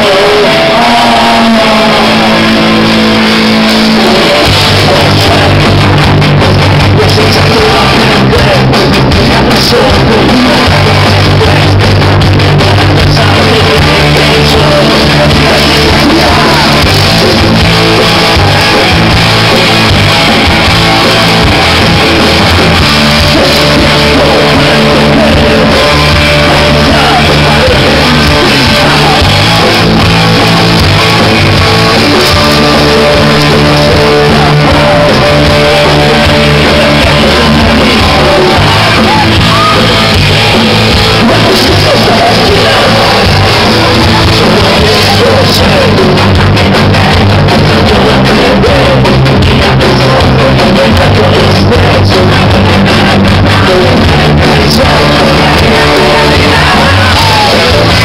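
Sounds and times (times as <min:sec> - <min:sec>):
electric guitar: 0:00.0 - 0:58.0
live rock band playing: 0:00.0 - 0:58.0
person singing and shouting: 0:00.0 - 0:58.0.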